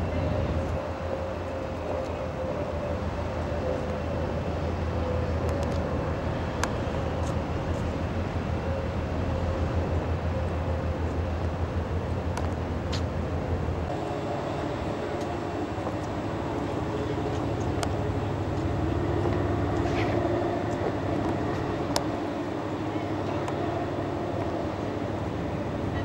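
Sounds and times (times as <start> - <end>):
low city rumble: 0.0 - 26.0.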